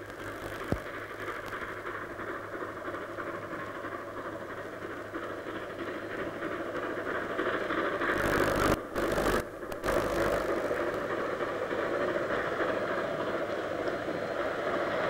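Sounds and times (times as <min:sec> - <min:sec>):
steam locomotive hiss and rumble: 0:00.0 - 0:15.0.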